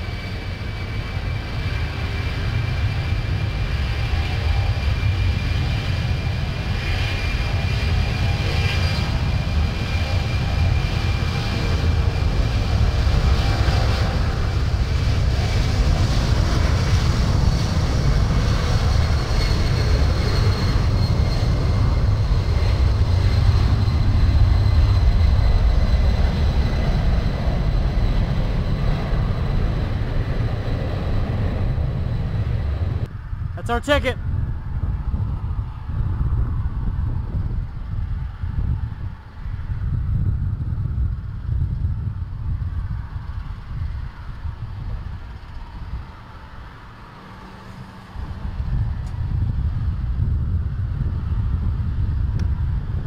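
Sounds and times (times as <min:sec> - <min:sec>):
high engine whine: 0:00.0 - 0:53.0
jet engines running: 0:00.0 - 0:53.0.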